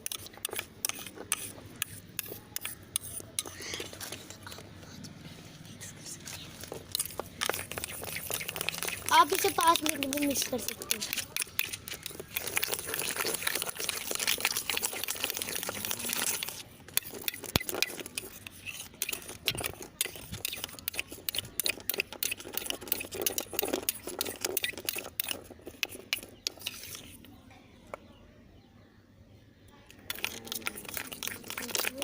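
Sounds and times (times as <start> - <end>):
slime being stirred by hand: 0.0 - 27.2, 29.9 - 32.0.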